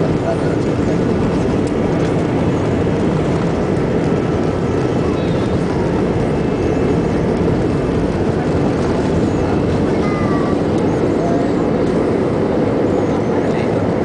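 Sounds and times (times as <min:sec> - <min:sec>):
jet engines at takeoff power: 0:00.0 - 0:14.0.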